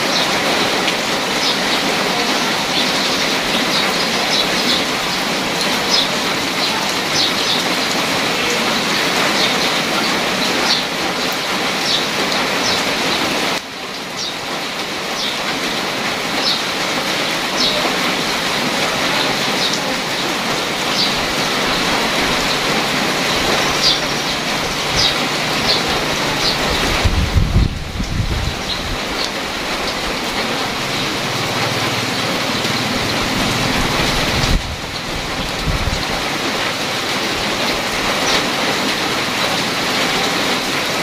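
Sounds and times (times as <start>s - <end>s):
rain falling into a puddle: 0.0s - 41.0s.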